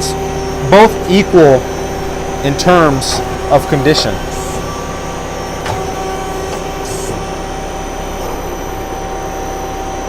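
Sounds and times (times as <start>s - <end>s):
machine hum and whine: 0.0s - 10.0s.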